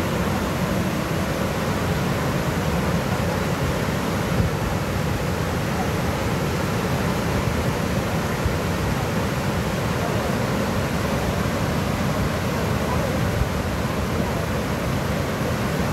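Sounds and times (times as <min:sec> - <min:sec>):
river churning: 0:00.0 - 0:15.9
waterfall roaring: 0:00.0 - 0:15.9.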